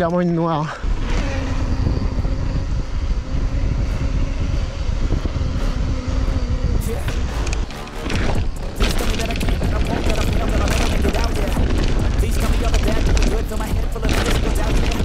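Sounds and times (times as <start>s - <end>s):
tyres humming on asphalt: 0.0s - 15.0s
wind rushing over microphone: 0.0s - 15.0s.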